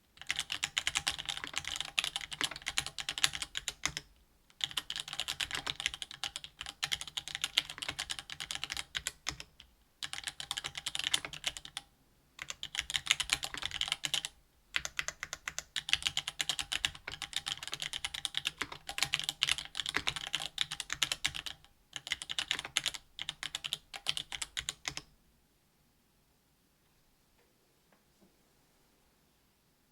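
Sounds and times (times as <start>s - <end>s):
fast mechanical keyboard typing: 0.2s - 11.8s, 12.4s - 25.0s.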